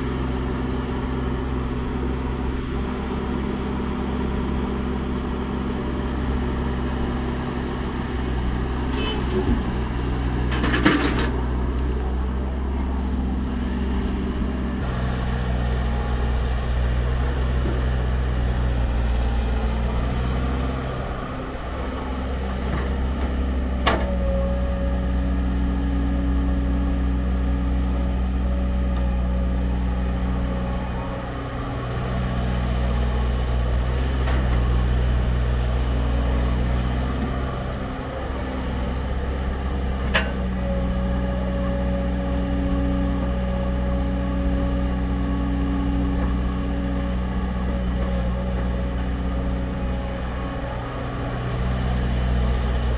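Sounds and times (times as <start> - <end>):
diesel engine of heavy machinery: 0.0 - 52.9.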